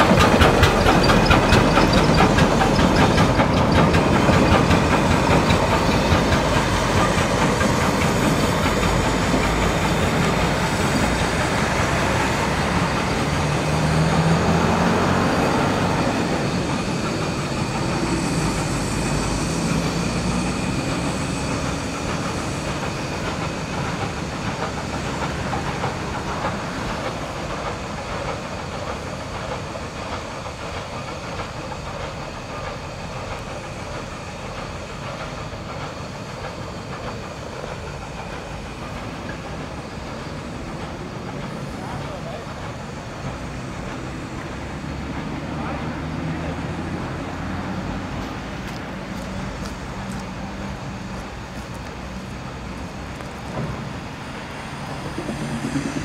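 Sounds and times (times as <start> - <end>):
train wheels clattering: 0.0 - 56.0.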